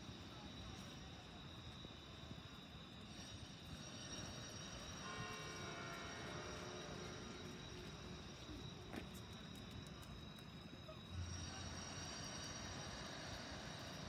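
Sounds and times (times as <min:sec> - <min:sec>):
busy public square ambience: 0:00.0 - 0:13.0.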